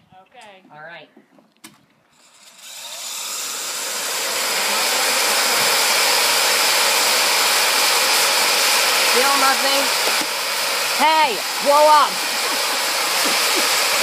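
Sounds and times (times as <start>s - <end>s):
motor whine and rushing air: 2.2s - 14.0s.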